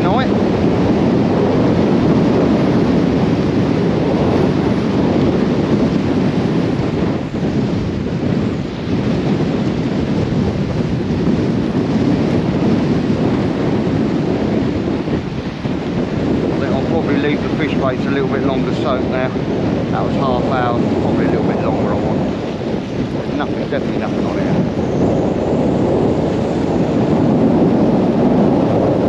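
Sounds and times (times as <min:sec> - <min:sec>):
strong wind buffeting microphone: 0:00.0 - 0:29.0.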